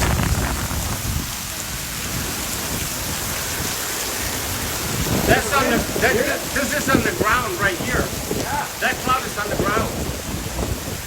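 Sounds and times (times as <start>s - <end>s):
heavy rain pouring: 0.0s - 11.0s
strong wind: 0.0s - 11.0s.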